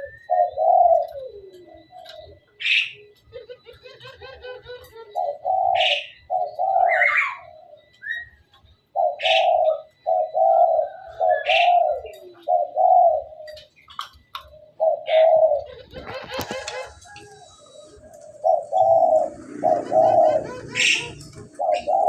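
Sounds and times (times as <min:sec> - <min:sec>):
myna calling: 0:00.0 - 0:08.2, 0:09.0 - 0:13.7, 0:14.7 - 0:22.0.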